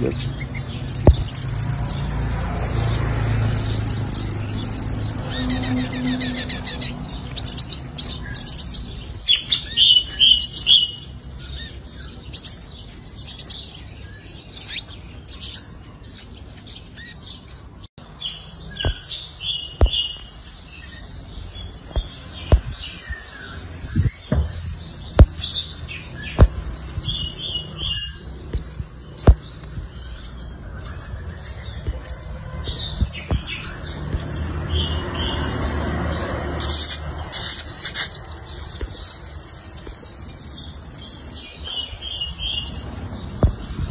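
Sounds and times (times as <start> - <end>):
sunbird high chirps and trills: 0.0 - 43.9.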